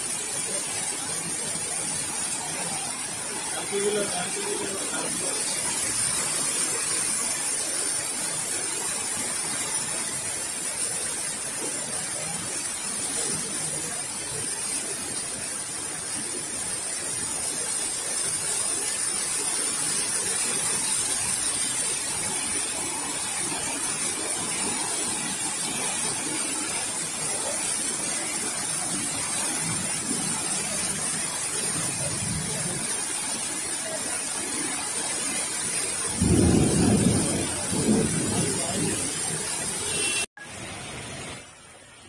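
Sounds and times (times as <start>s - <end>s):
heavy rain pouring: 0.0s - 42.0s
running water on street: 0.0s - 42.0s.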